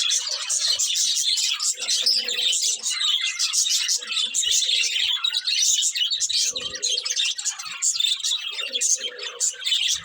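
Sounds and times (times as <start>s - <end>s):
budgerigars chirping and chattering: 0.0s - 10.0s.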